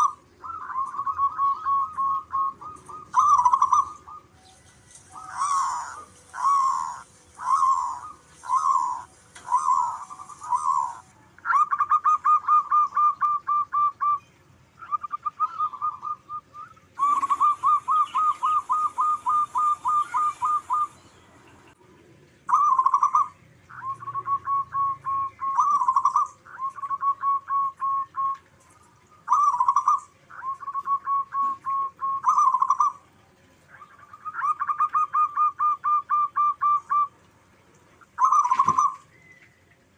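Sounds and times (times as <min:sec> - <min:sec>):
doves cooing: 0:00.0 - 0:14.2, 0:14.8 - 0:39.9.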